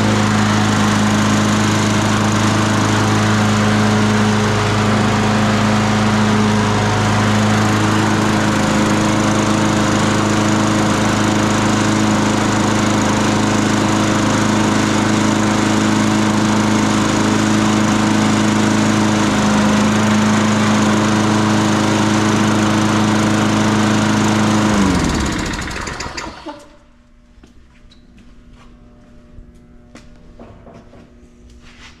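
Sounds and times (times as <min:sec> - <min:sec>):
lawn mower engine running: 0:00.0 - 0:26.8.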